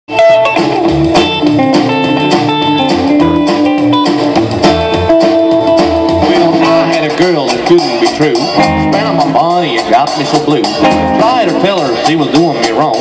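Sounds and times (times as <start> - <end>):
electric guitar: 0.1 - 13.0
rock band playing: 0.1 - 13.0.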